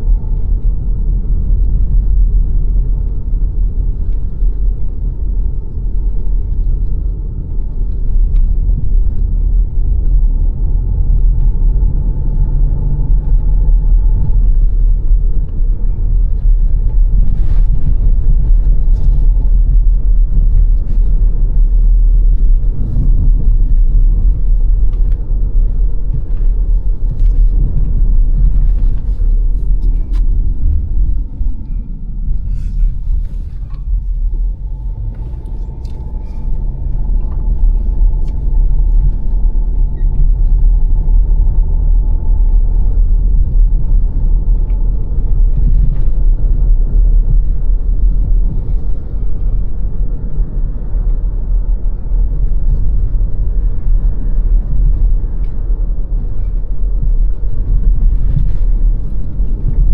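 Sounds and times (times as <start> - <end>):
car tyres and engine rumble: 0.0 - 59.9
faint steady whine: 0.0 - 59.9.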